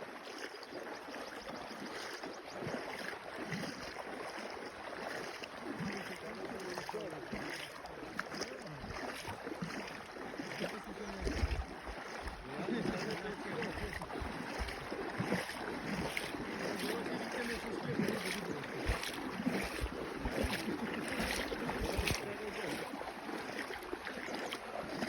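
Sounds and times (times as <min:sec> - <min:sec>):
river water rushing: 0:02.2 - 0:25.0.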